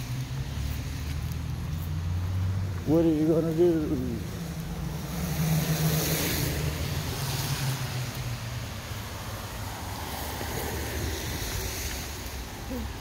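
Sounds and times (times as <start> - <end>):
car engine hum and road noise: 0.0 - 13.0.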